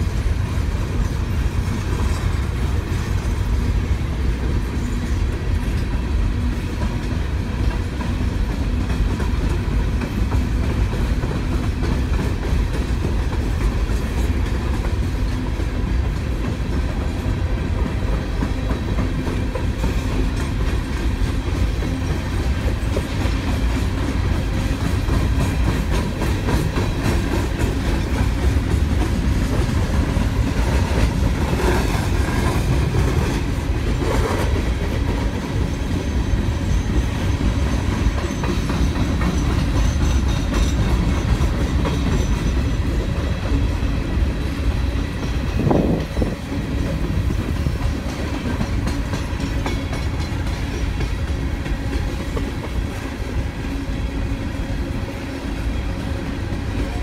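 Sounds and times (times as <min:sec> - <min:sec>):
wheels clicking over rail joints: 0:00.0 - 0:53.5.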